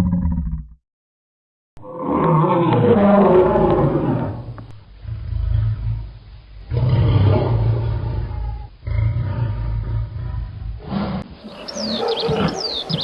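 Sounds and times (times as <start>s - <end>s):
deep animal roars: 1.8s - 13.0s.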